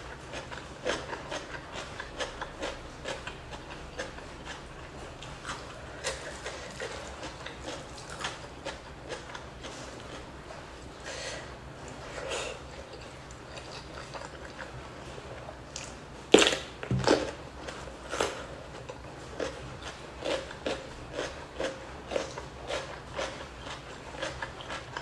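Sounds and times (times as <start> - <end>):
crunchy food chewing: 0.0 - 11.0, 11.8 - 25.0.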